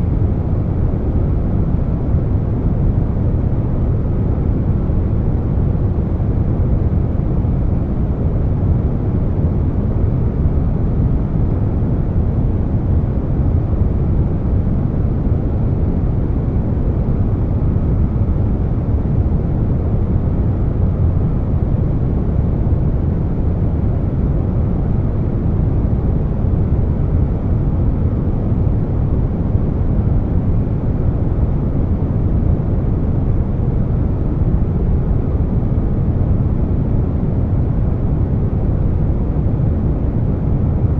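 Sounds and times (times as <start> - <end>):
air conditioner deep rushing noise: 0.0 - 40.9.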